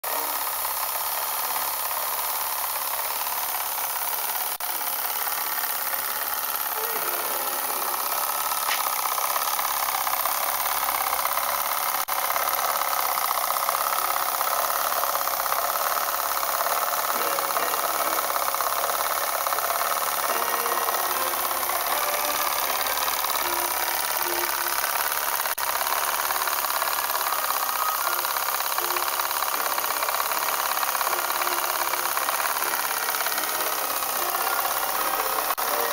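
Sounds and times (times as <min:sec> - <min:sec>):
model steam engine running: 0:00.0 - 0:35.9.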